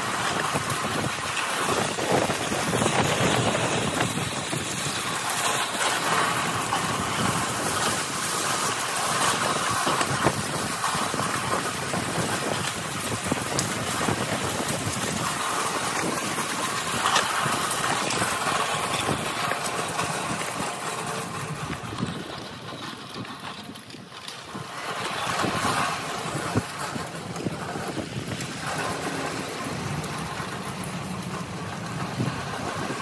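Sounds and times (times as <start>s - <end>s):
wheels rumbling on rough asphalt: 0.0s - 33.0s.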